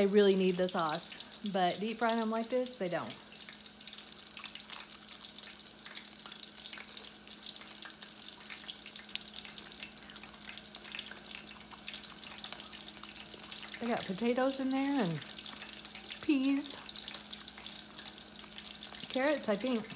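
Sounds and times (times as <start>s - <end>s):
food deep-frying in oil: 0.0s - 19.9s.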